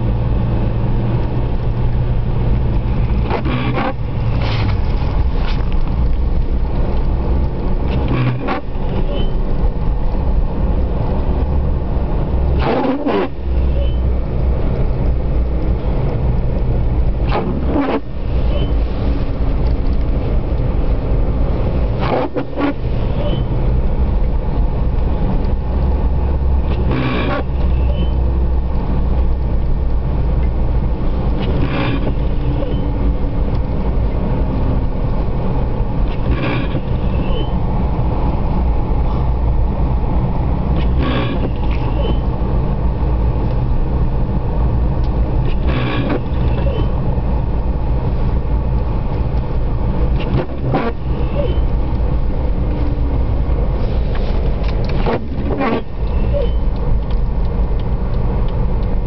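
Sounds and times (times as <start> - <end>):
vehicle engine and tyre rumble: 0.0 - 59.0
windscreen wipers swishing: 0.0 - 59.0.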